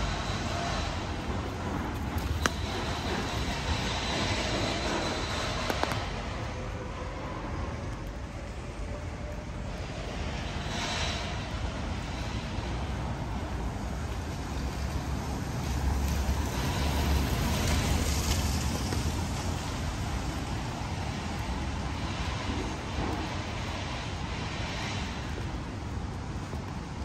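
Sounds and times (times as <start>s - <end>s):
car passing with tyre hiss: 0.0s - 27.0s
steady traffic noise: 0.0s - 27.0s.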